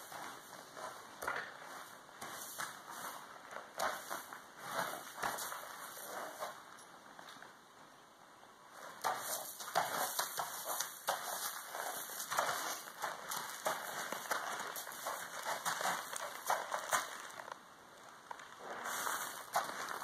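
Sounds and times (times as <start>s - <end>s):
hooves crunching on sand: 0.0s - 6.6s, 9.0s - 17.6s, 18.3s - 20.0s.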